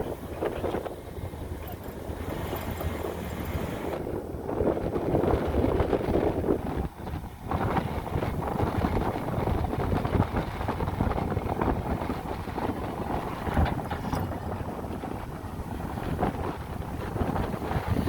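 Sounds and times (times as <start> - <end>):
heavy machinery engine rumbling: 0.0 - 18.0
wind buffeting microphone: 0.0 - 18.0.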